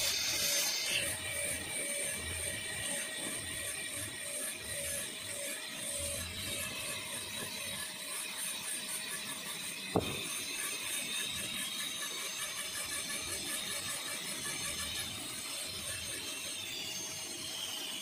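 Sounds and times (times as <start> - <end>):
dental drill whining: 0.0 - 18.0.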